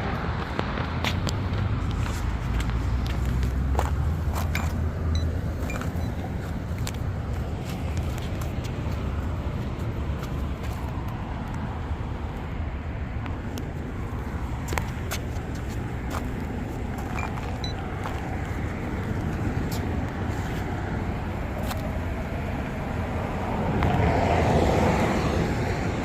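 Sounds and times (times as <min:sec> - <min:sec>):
passing cars: 0:00.0 - 0:26.0.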